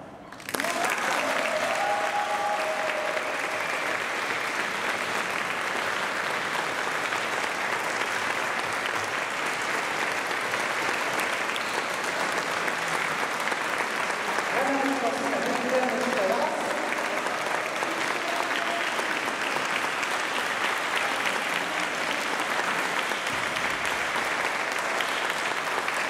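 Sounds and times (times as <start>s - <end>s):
small audience applauding: 0.0s - 26.0s.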